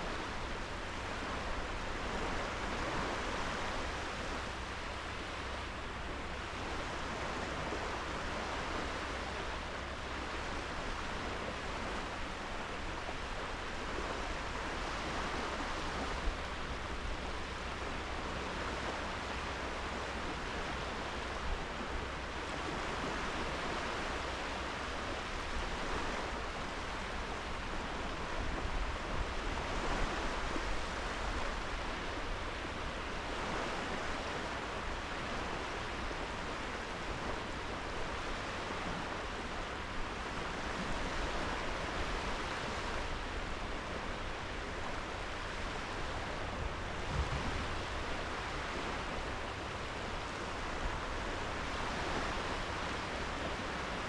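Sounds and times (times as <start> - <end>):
sea waves breaking on sand: 0.0 - 54.0.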